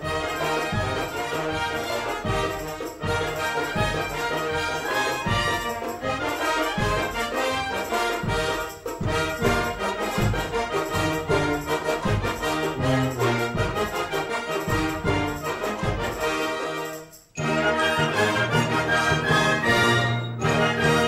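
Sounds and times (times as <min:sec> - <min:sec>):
brass: 0:00.0 - 0:21.0.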